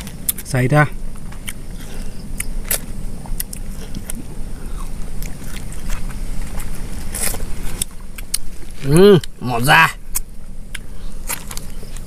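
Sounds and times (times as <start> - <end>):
people chewing lemon slices: 0.0 - 0.5, 1.2 - 12.0
steady low rumble: 0.0 - 12.0.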